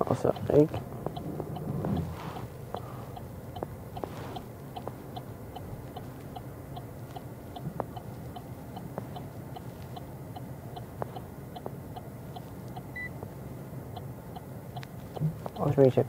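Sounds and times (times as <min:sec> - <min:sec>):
parking sensor beeps: 0:00.0 - 0:13.2
low cabin rumble: 0:00.0 - 0:16.0.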